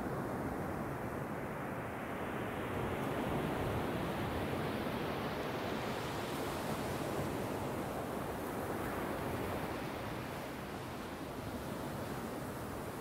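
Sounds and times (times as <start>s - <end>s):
ocean waves breaking on beach: 0.1s - 13.0s.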